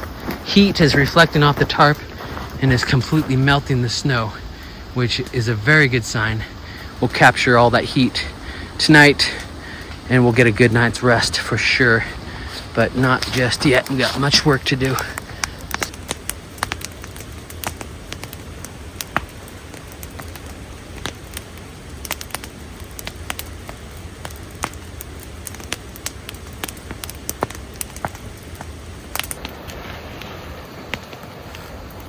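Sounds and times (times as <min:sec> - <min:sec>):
burning wood popping: 0:00.0 - 0:32.0
campfire crackling: 0:00.0 - 0:32.0
steady fire hiss: 0:00.0 - 0:32.0.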